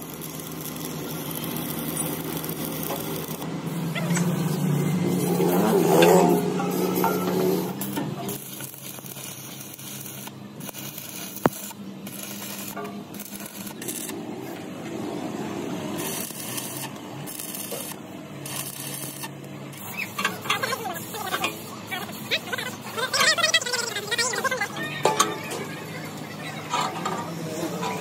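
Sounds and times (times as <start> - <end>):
arc welding crackle: 0.0 - 14.7, 15.9 - 25.2
gas torch cutting steel: 0.0 - 25.6.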